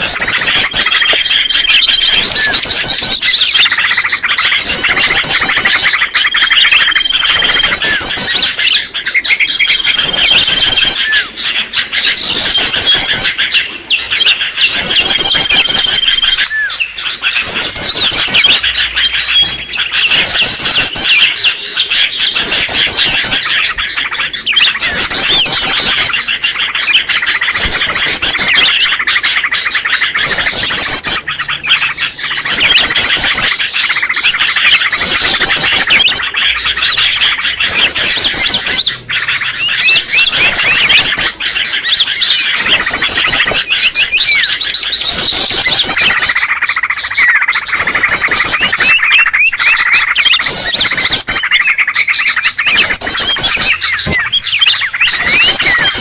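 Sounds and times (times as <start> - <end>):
birds chirping and warbling: 0.0 - 56.0.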